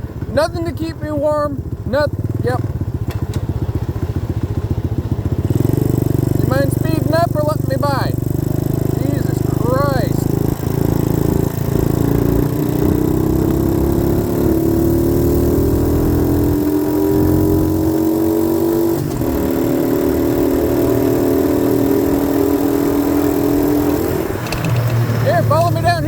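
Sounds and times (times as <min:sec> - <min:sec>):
dirt bike engine revving: 0:00.0 - 0:26.0
wind and road noise: 0:00.0 - 0:26.0.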